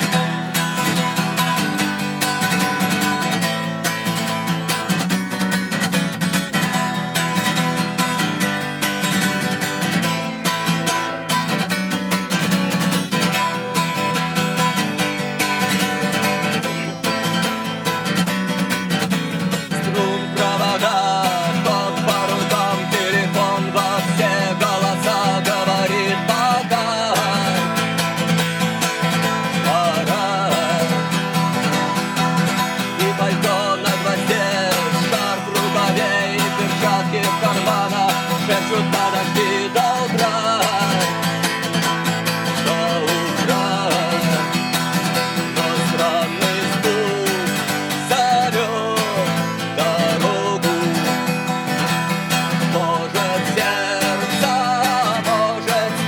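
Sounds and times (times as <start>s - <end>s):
man singing: 0.0s - 5.0s, 12.8s - 18.2s, 19.4s - 56.0s
acoustic guitar strumming: 0.0s - 56.0s.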